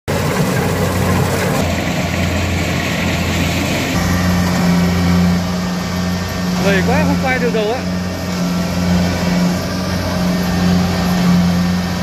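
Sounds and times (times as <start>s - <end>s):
vehicle engine idling: 0.1s - 12.0s.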